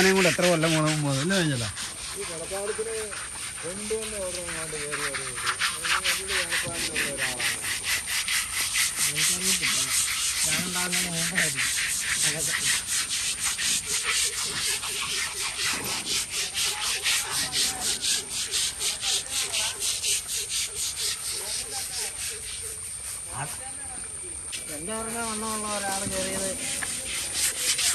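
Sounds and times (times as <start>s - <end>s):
rhythmic scrubbing on hide: 0.0s - 27.9s.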